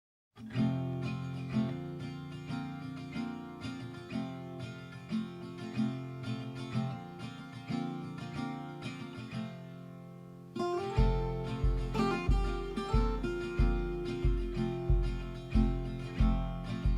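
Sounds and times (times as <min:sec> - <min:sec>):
acoustic guitar tune: 0:00.4 - 0:16.9.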